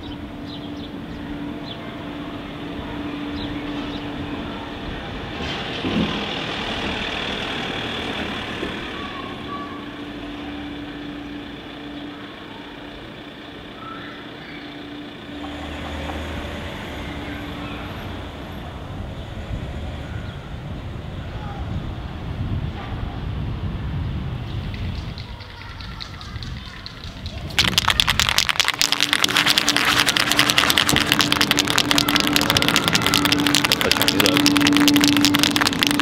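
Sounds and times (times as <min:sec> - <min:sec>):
traffic engine hum: 0:00.0 - 0:22.4, 0:24.3 - 0:36.0.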